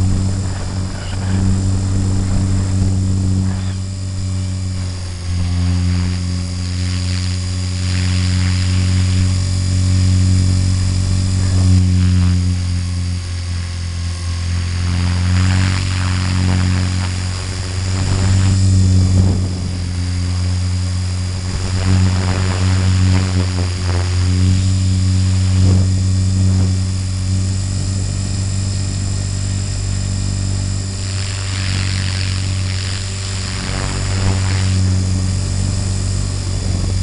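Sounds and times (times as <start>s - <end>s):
faint high whine: 0.0s - 37.0s
helicopter rotor and motor drone: 0.0s - 37.0s.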